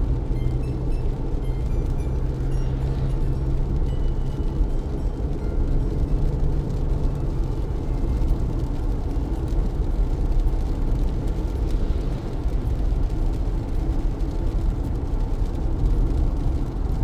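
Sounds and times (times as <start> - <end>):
car engine rumble: 0.0 - 17.0
rain: 0.0 - 17.0
tyres on wet road: 0.0 - 17.0.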